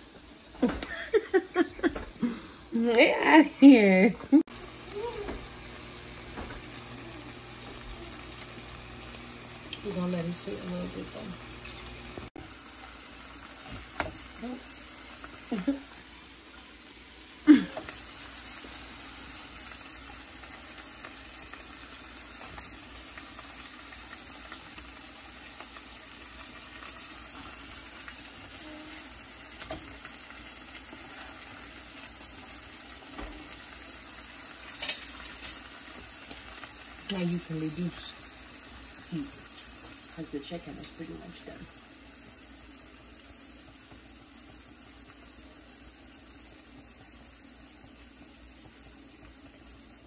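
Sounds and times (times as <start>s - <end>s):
chicken sizzling in oil: 4.4s - 50.0s.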